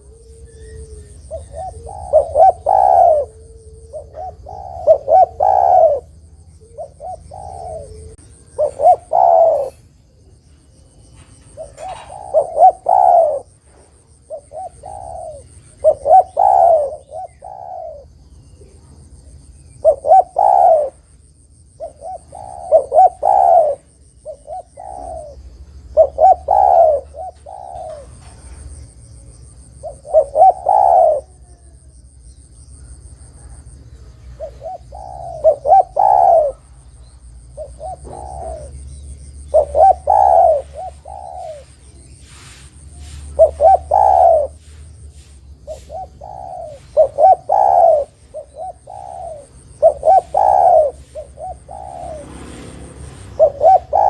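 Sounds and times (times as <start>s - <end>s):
dove cooing: 0.0s - 21.1s, 21.7s - 32.1s, 32.7s - 54.0s.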